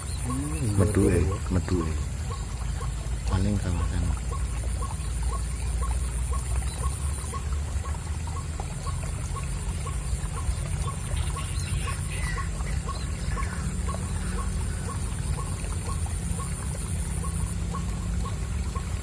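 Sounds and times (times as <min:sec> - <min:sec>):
bird calls: 0:00.0 - 0:19.0.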